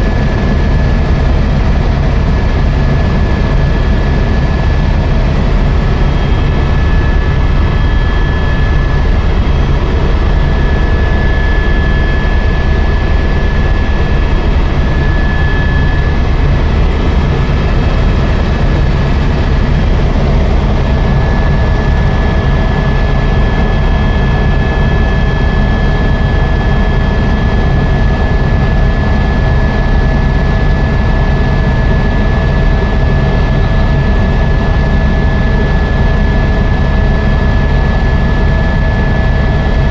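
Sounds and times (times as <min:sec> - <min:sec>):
helicopter engine and rotor drone: 0:00.0 - 0:39.9
helicopter turbine whine: 0:00.0 - 0:39.9.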